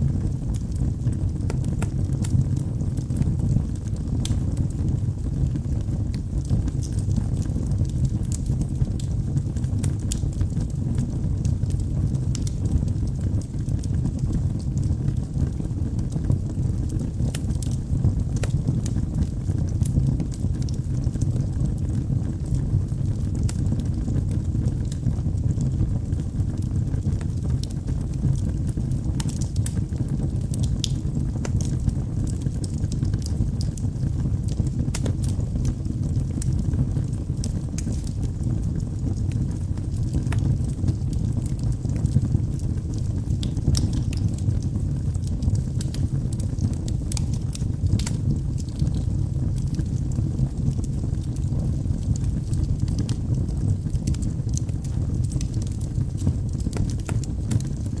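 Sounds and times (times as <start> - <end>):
low rumble of flame: 0.0 - 58.0
logs crackling and popping: 0.1 - 58.0.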